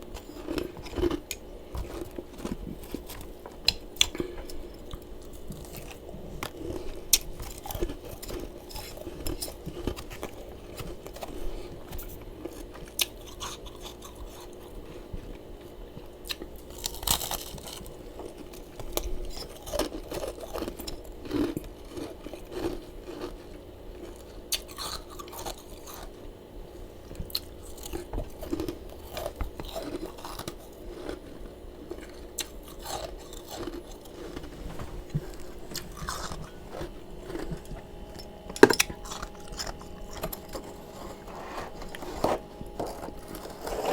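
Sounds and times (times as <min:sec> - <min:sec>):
chewing and crunching frost: 0:00.0 - 0:43.9
faint steady hum: 0:00.0 - 0:43.9.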